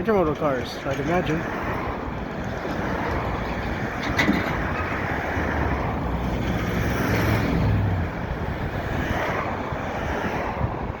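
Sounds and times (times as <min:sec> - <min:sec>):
heavy vehicle engine hum: 0:00.0 - 0:11.0
road traffic passing: 0:00.0 - 0:11.0.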